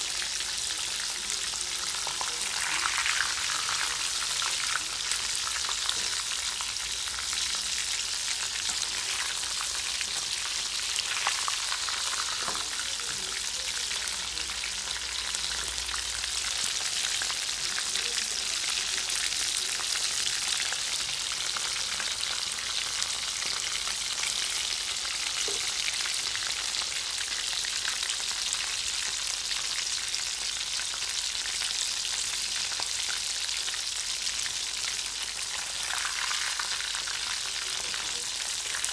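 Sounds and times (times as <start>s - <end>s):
food deep-frying in oil: 0.0s - 38.9s.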